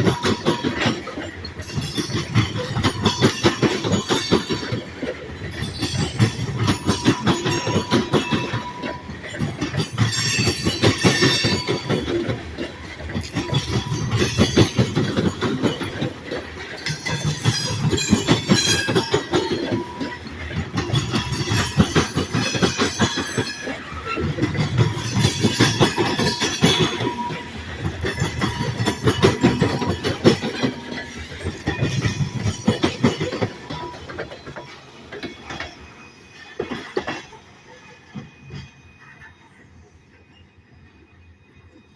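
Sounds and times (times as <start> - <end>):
train wheels clattering over rail joints: 0.0 - 40.4.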